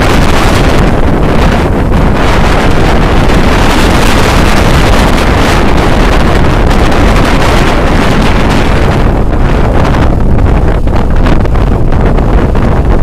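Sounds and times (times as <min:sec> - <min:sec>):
moving vehicle rumble: 0:00.0 - 0:13.0
wind buffeting microphone: 0:00.0 - 0:13.0.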